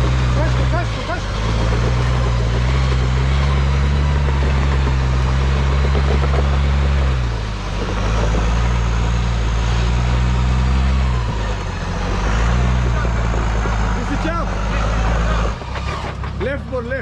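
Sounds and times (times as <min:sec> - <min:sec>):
off-road vehicle engine labouring: 0:00.0 - 0:17.0.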